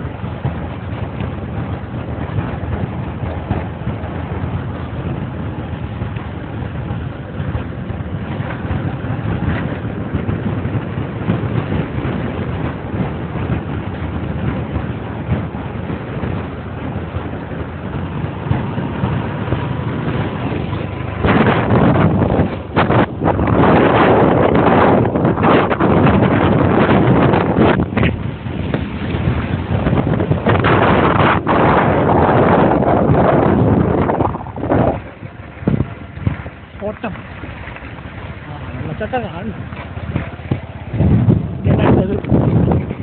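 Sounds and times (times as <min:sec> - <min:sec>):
motorcycle engine running: 0:00.0 - 0:43.0
wind rumbling over microphone: 0:00.0 - 0:43.0.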